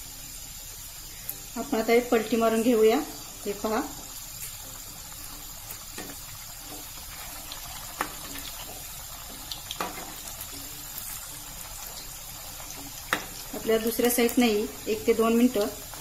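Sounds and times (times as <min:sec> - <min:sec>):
deep-frying in hot oil: 0:00.0 - 0:16.0.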